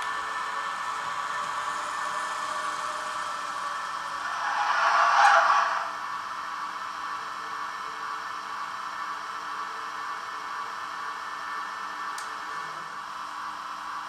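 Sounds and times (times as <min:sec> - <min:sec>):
model train whirring hiss: 0:00.0 - 0:14.0.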